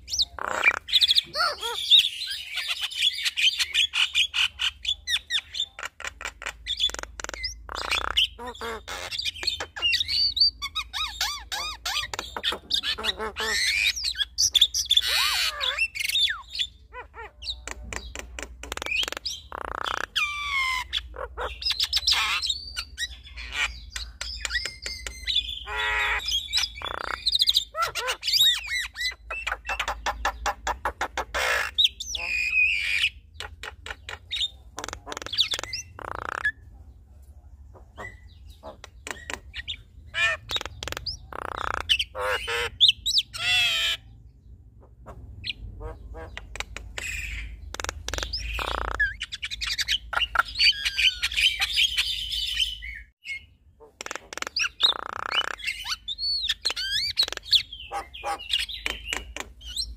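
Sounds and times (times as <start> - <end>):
birds squawking and chattering: 0.0 - 59.9.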